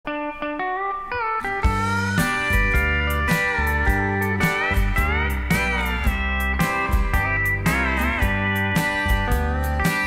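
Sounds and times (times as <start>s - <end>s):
slide guitar: 0.1s - 10.0s
steady drum beat: 1.7s - 10.0s.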